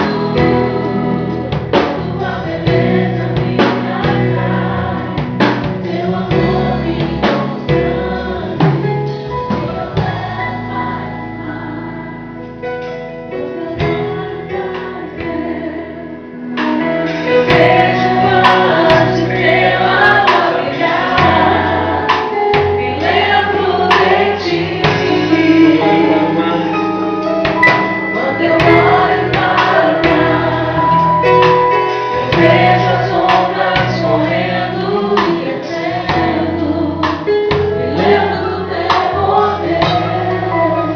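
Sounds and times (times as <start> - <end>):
band with percussion: 0.0 - 11.4, 12.2 - 40.9
choir singing gospel: 0.0 - 40.9.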